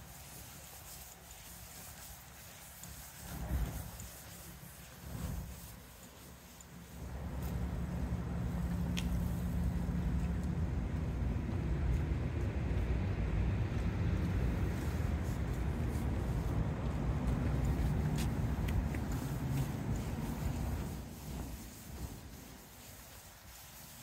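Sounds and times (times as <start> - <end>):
traffic engines and tyres rumbling: 2.8 - 23.4.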